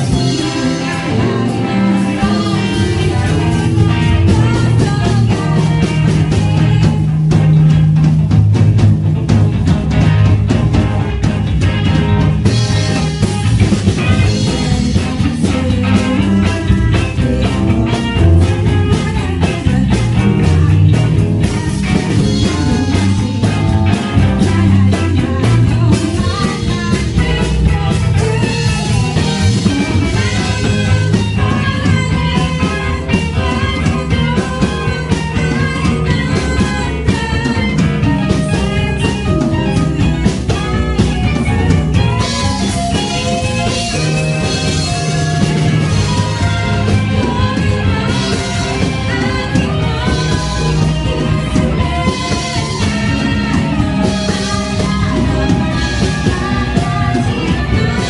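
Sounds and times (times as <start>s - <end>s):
woman singing: 0.0s - 7.3s, 12.6s - 58.0s
bass guitar: 0.0s - 58.0s
drum kit: 0.0s - 58.0s
electric guitar: 0.0s - 58.0s.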